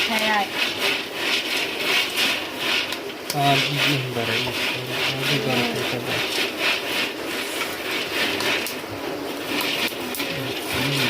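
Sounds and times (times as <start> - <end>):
maize kernels popping: 0.0 - 11.0
rhythmic scraping in a pan: 0.0 - 11.0.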